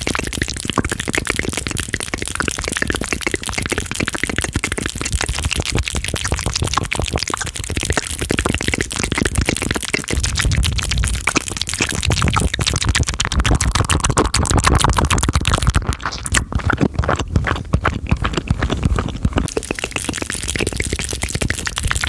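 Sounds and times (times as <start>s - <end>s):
wet mouth clicks and smacks: 0.0s - 22.0s.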